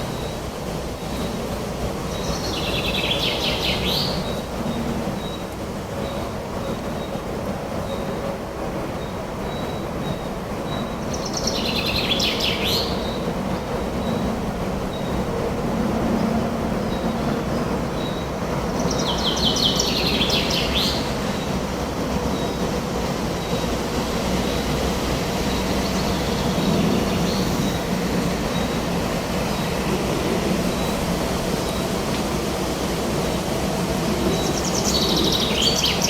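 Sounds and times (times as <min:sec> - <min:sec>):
wind through a forest: 0:00.0 - 0:36.0.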